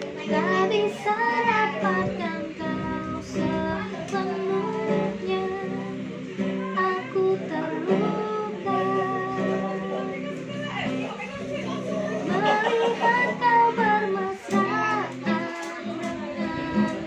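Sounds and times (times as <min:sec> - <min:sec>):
child singing: 0:00.0 - 0:17.0
strummed acoustic guitar: 0:00.0 - 0:17.0.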